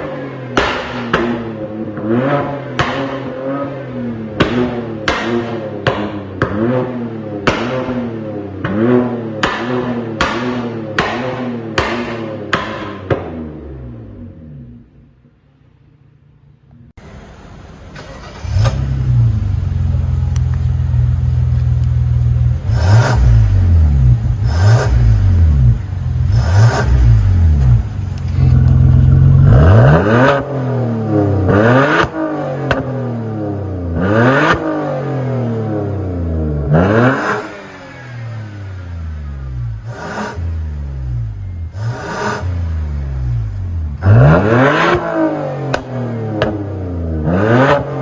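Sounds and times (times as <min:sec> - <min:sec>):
car engine revving with exhaust pops: 0:00.0 - 0:15.1, 0:16.6 - 0:48.0.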